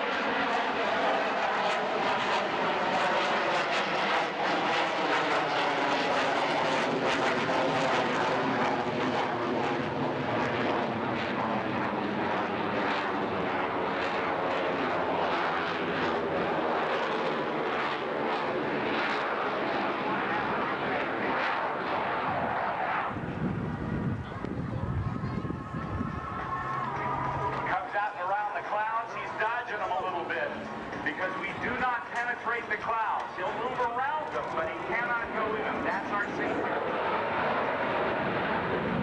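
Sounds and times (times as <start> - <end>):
jet flying overhead: 0.0 - 39.0.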